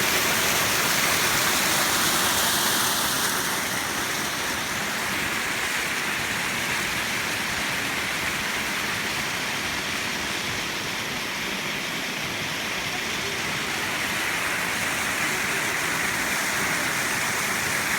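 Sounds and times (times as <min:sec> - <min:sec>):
spring water rushing: 0:00.0 - 0:17.9.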